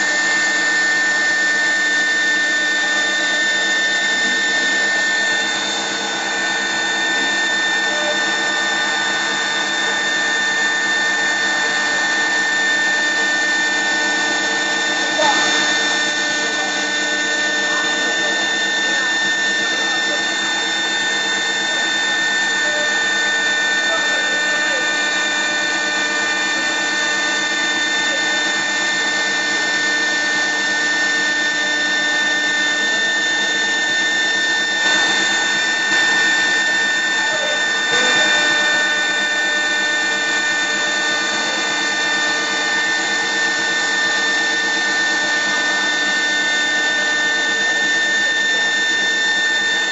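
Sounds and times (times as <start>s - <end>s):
wood lathe machine whine: 0.0s - 49.9s.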